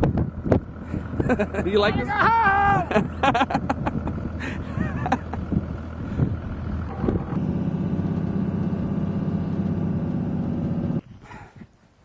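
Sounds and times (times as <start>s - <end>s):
vehicle engine running: 0.0s - 11.5s.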